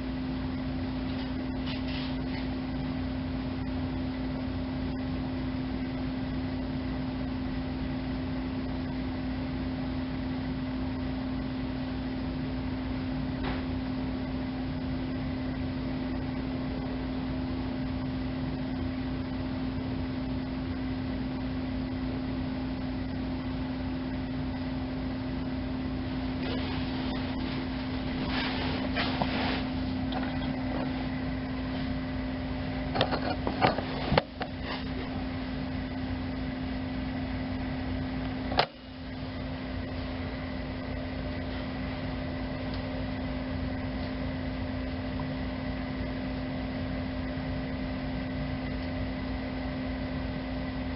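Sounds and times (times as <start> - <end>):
lamp motor electric hum: 0.0 - 50.9.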